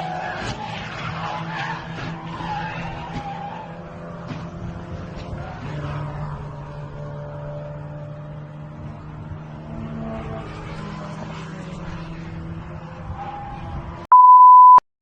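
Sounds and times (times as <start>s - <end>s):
car engine hum: 0.0s - 14.0s
tyre and road noise: 0.0s - 14.1s.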